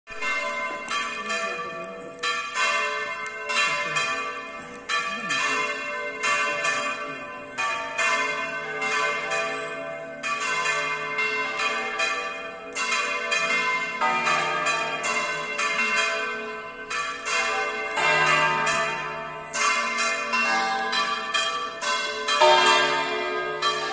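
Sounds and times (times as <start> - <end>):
church bells ringing: 0.1 - 23.9.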